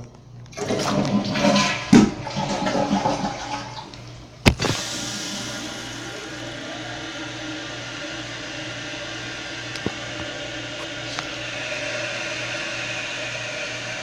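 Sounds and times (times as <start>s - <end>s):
toilet tank refilling hiss: 0.6s - 14.0s.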